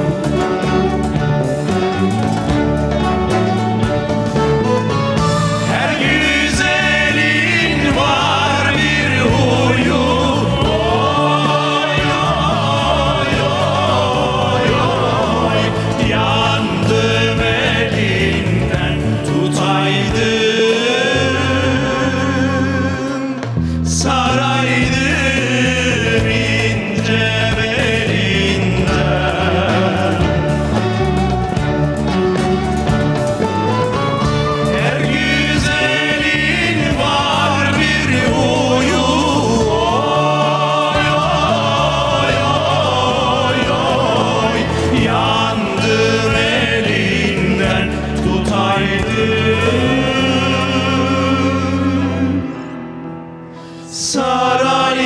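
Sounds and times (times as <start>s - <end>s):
group singing folk song: 0.0s - 55.0s
instrumental accompaniment: 0.0s - 55.0s.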